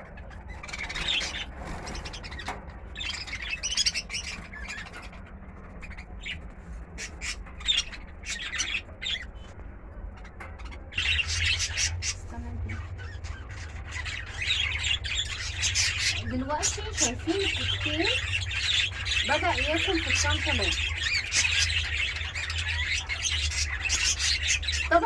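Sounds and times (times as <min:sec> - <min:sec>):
birds chirping and squawking: 0:00.0 - 0:25.0.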